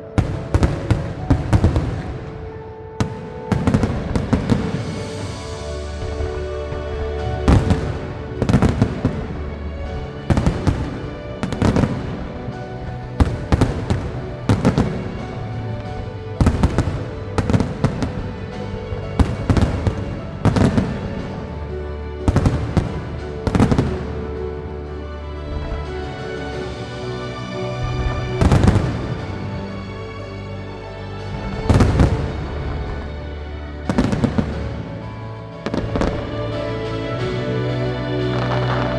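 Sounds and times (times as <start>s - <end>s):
fireworks bangs and crackling: 0.0s - 30.7s, 31.3s - 38.9s
steady music: 0.0s - 38.9s.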